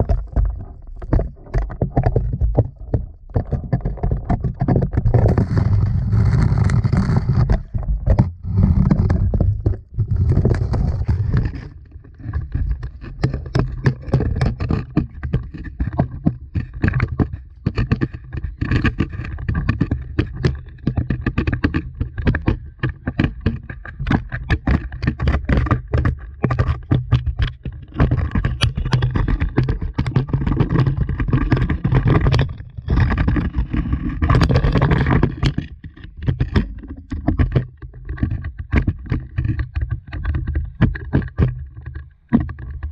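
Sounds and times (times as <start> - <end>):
camera scraping against rock: 0.0 - 42.9.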